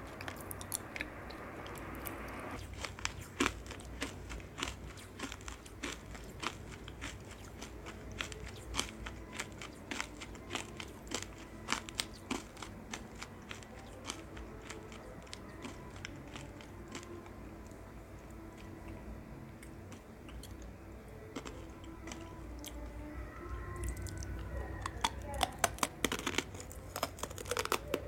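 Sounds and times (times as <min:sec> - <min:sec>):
chewing crunchy sweets: 0:00.0 - 0:28.0.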